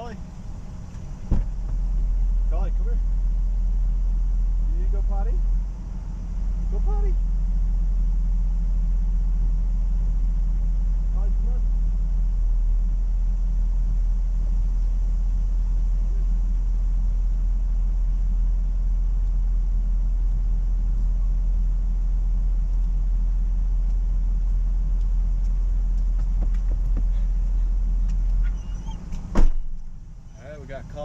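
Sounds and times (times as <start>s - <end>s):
car idling: 0.0s - 31.0s.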